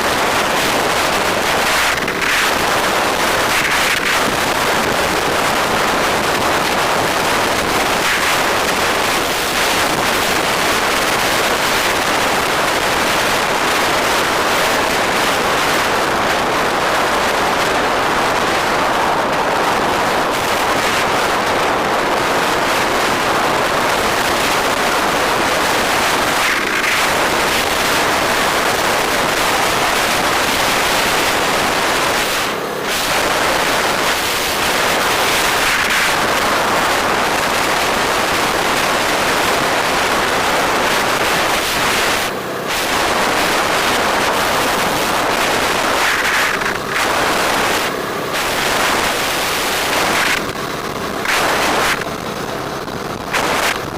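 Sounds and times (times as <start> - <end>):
road noise: 0.0 - 53.9
wind rush: 0.0 - 53.9.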